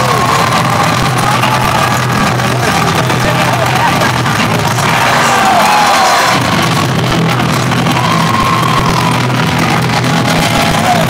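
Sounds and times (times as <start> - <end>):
crowd shouts and whoops: 0.0 - 11.0
loud arena crowd: 0.0 - 11.0
music: 0.0 - 11.0.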